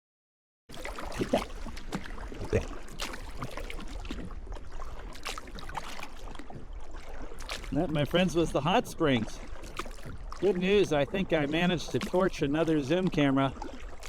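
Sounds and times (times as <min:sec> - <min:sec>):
water splashing and sloshing: 0:00.7 - 0:14.0.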